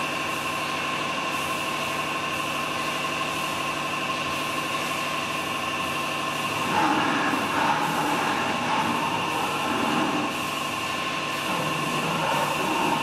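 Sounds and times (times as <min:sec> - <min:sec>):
pneumatic machine hum and whine: 0:00.0 - 0:13.0.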